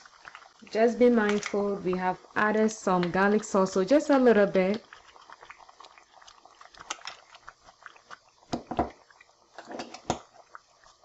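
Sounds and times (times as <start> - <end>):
pops and crackles: 0.0 - 3.5, 4.5 - 11.0
stew sizzling in a pan: 0.0 - 11.0.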